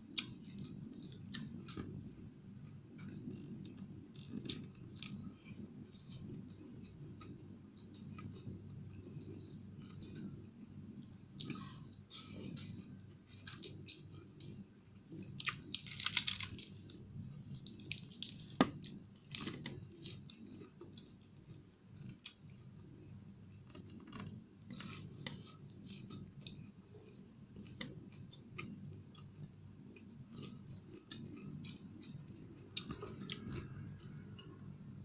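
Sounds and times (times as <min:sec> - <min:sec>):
person chewing crunchy food: 0:00.0 - 0:34.8.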